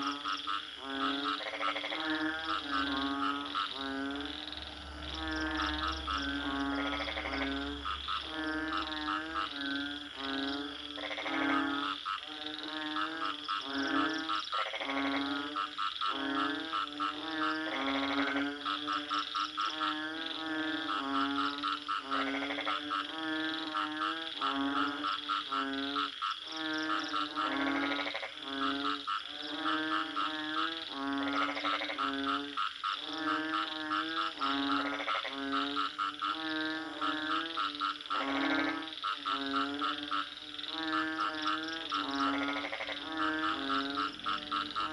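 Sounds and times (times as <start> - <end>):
frogs croaking: 0.0 - 44.9.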